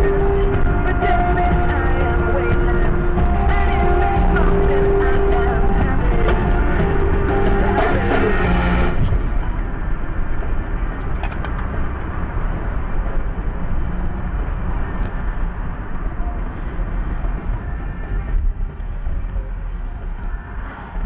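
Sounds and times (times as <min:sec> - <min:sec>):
car tyre and engine rumble: 0:00.0 - 0:21.0.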